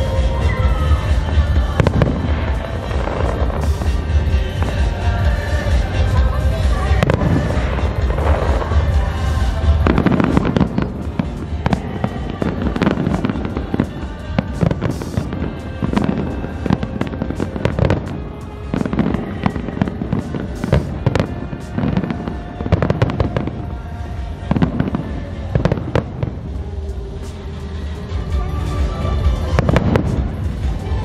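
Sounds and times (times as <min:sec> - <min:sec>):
fireworks bursting with bangs and crackles: 0:00.0 - 0:31.0
music playing: 0:00.0 - 0:31.0.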